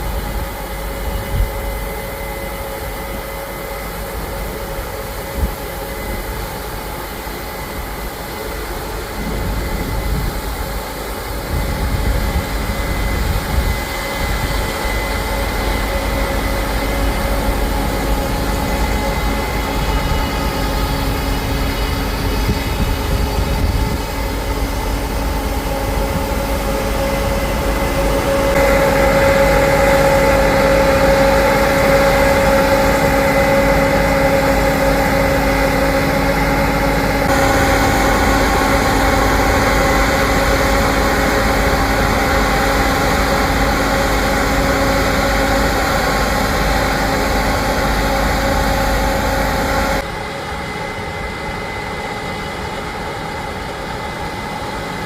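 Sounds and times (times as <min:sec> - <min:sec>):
diesel engine low rumble: 0:00.0 - 0:50.1
machinery hum and whine: 0:00.0 - 0:55.0.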